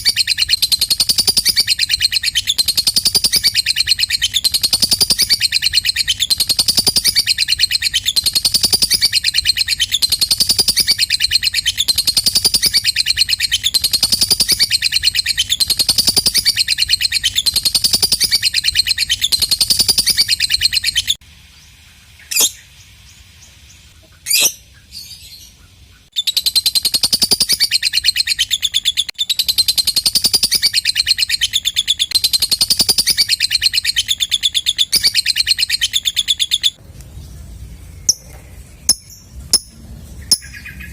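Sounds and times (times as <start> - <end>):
bird chattering trill: 0.0 - 21.2, 23.9 - 36.8, 38.0 - 40.9.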